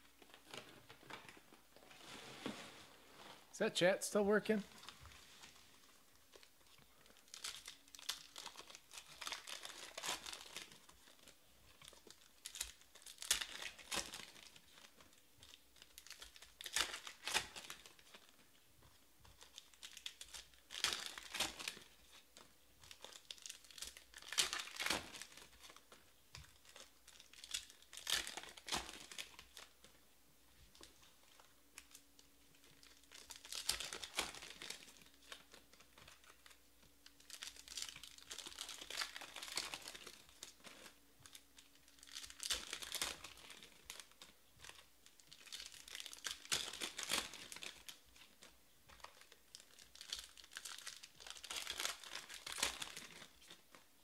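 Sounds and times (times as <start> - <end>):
foil wrappers crinkling and tearing: 4.7 - 30.0, 30.7 - 54.0.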